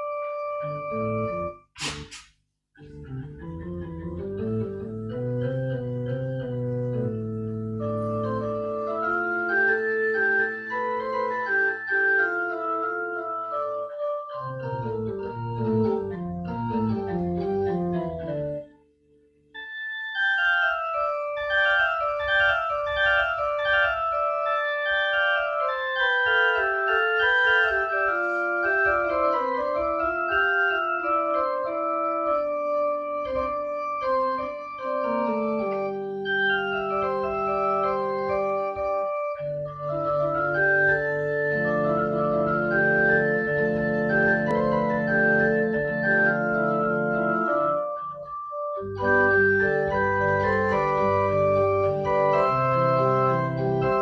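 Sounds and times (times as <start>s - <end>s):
organ-sound piano piece: 0.0s - 2.2s, 2.8s - 54.0s.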